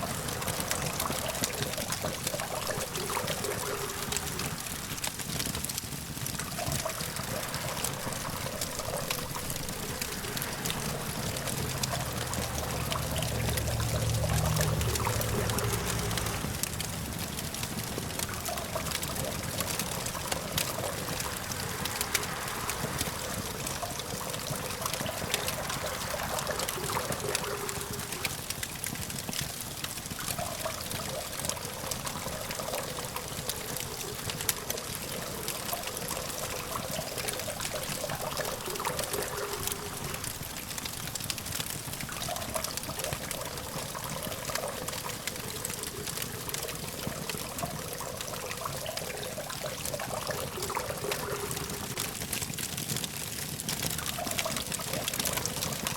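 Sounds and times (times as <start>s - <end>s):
campfire crackling and popping: 0.0s - 55.9s
distant traffic hum: 0.0s - 55.9s.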